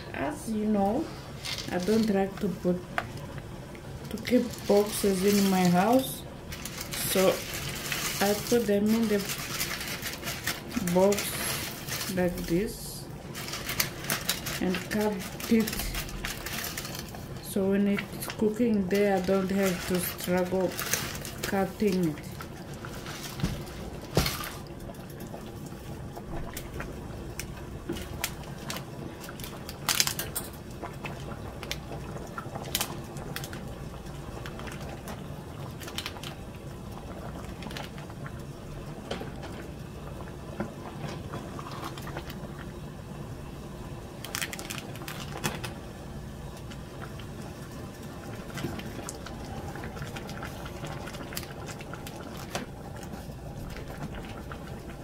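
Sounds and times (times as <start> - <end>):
sauce bubbling in a pot: 1.0 - 55.0.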